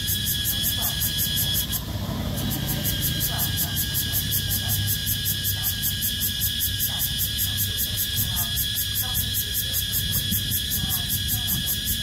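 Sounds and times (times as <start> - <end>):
cicadas calling: 0.0 - 12.0.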